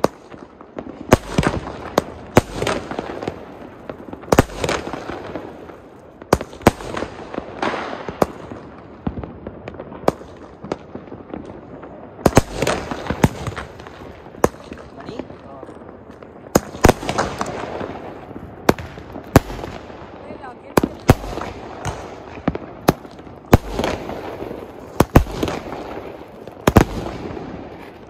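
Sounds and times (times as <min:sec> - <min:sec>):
firework bangs: 0:00.0 - 0:28.0.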